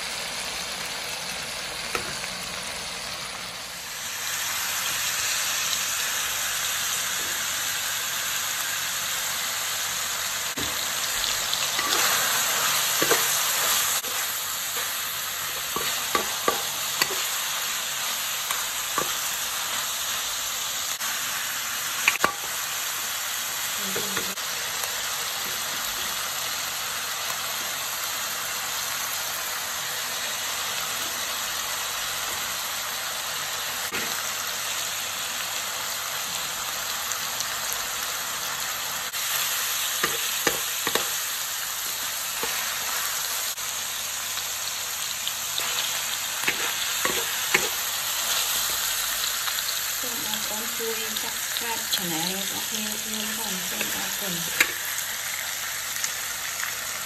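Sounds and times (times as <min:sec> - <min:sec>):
meat sizzling in a wok: 0:00.0 - 0:57.0.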